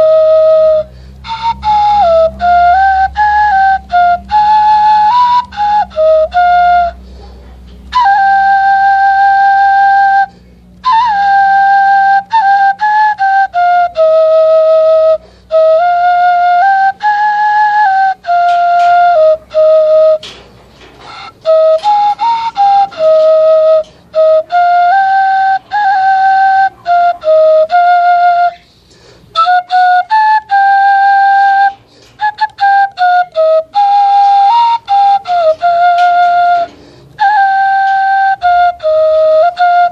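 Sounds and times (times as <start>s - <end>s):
bamboo flute melody: 0.0s - 39.9s.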